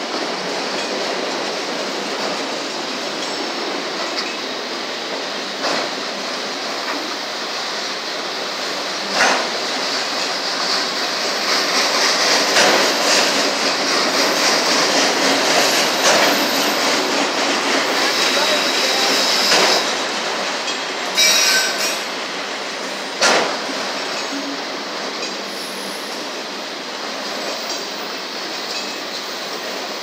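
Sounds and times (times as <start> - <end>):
steel wheels rushing on rail: 0.0 - 30.0.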